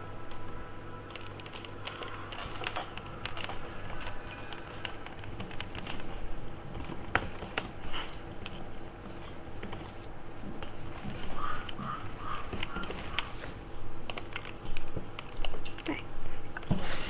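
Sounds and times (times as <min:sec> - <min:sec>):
computer keyboard typing: 0:01.1 - 0:16.0.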